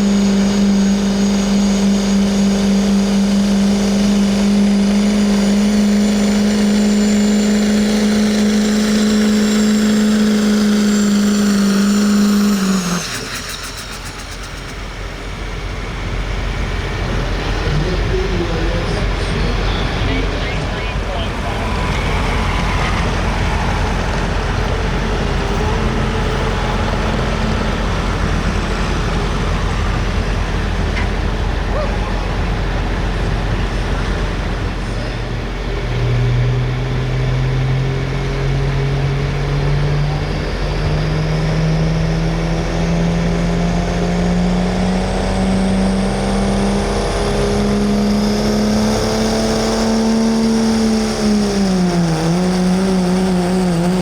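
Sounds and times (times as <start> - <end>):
truck engine running hard: 0.0 - 54.0.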